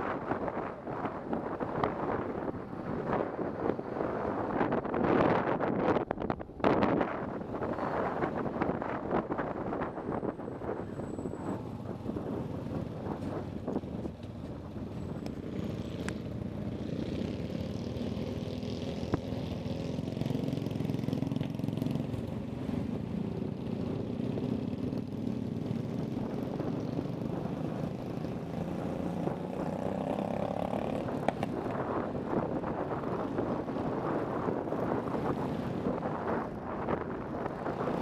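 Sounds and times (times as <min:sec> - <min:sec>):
wind noise on microphone: 0:00.0 - 0:38.0.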